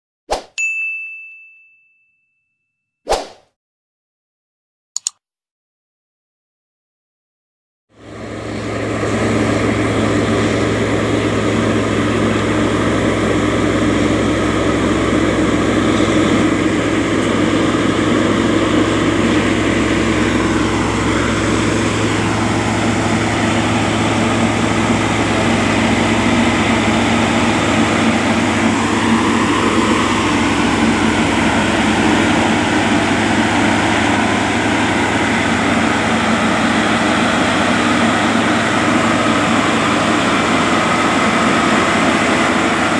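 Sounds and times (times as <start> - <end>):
rail machine droning: 8.0 - 42.9.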